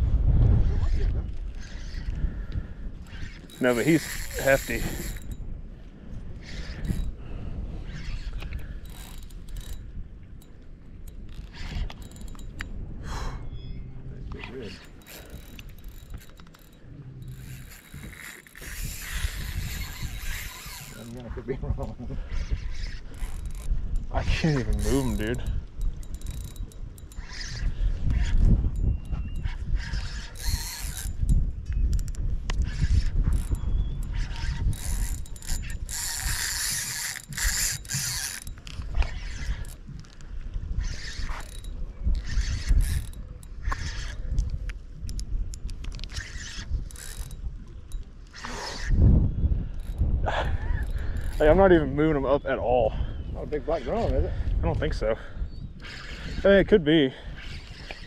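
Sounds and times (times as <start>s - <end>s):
wind rumble on microphone: 0.0s - 58.0s
fishing reel drag clicking: 0.7s - 12.9s, 14.2s - 52.2s, 54.9s - 58.0s
reel gears rattling: 1.4s - 5.5s, 6.4s - 7.2s, 7.8s - 12.8s, 14.2s - 49.0s, 49.8s - 52.1s, 55.8s - 58.0s.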